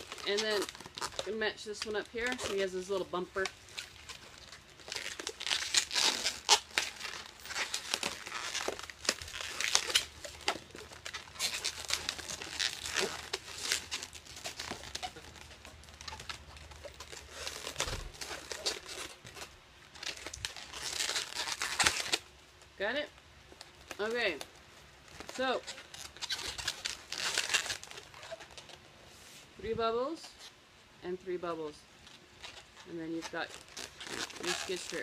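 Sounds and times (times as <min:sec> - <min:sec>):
balloons rubbing and squeaking: 0:00.0 - 0:22.3, 0:23.7 - 0:29.5, 0:32.1 - 0:35.0.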